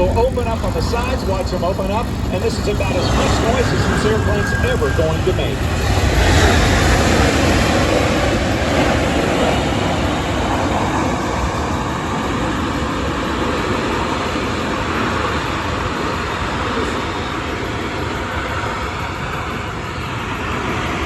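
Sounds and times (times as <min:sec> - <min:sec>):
jet engines in reverse thrust: 0:00.0 - 0:21.0.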